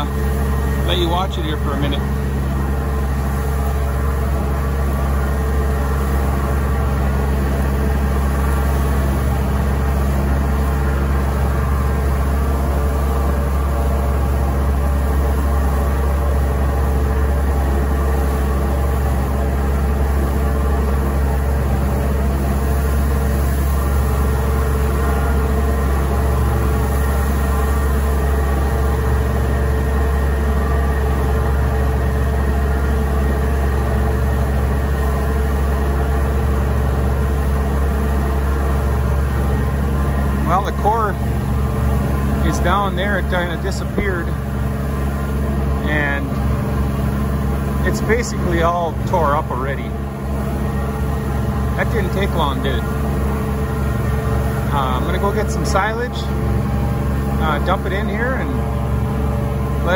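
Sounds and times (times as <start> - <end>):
feed mixer auger churning hay: 0.0 - 59.9.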